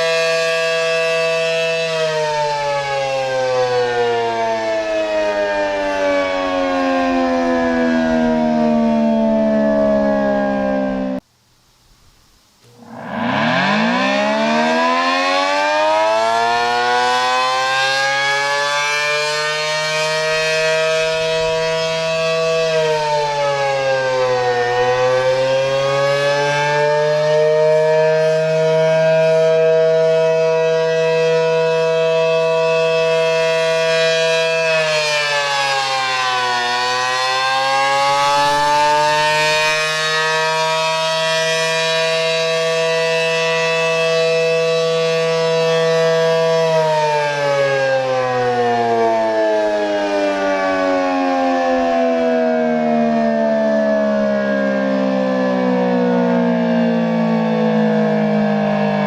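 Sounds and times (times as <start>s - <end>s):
two-tone warning siren: 0.0s - 11.2s, 12.6s - 59.0s.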